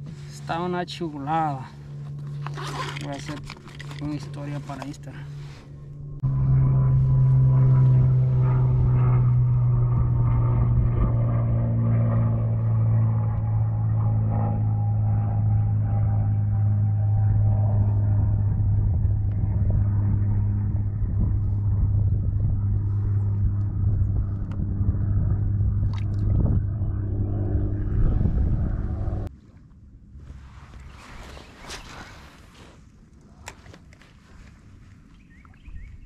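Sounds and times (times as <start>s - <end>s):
boat motor humming: 0.0s - 29.3s.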